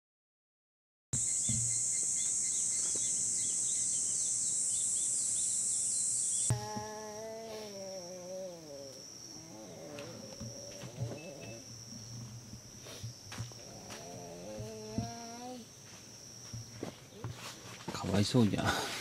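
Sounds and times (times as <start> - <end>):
high insect trill: 1.2 - 19.0
insect chirps: 1.2 - 19.0
insects droning: 1.2 - 19.0.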